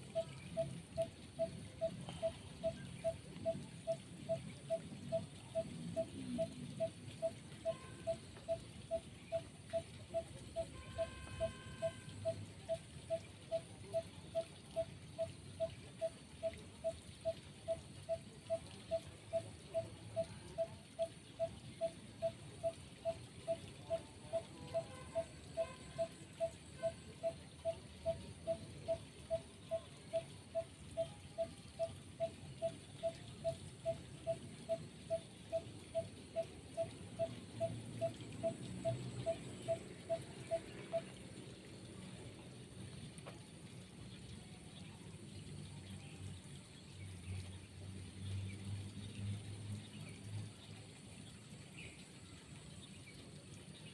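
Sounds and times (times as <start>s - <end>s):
faint steady hiss: 0.0s - 53.9s.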